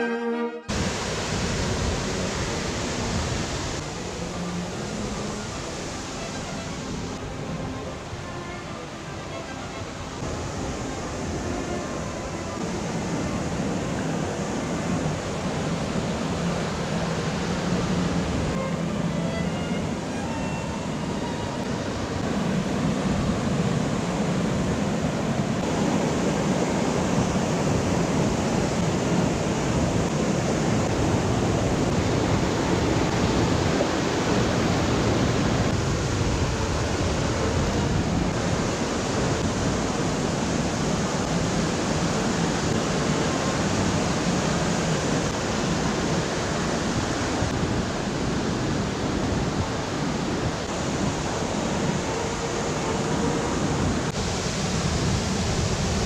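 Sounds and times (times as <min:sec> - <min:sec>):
waterfall rushing: 0:00.7 - 0:56.0.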